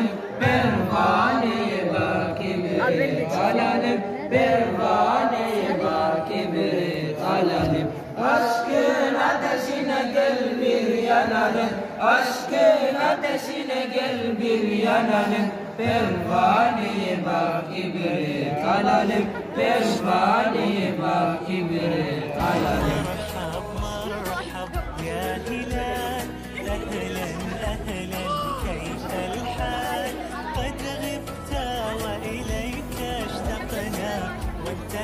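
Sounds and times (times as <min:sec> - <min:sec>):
young men chanting: 0:00.0 - 0:35.0.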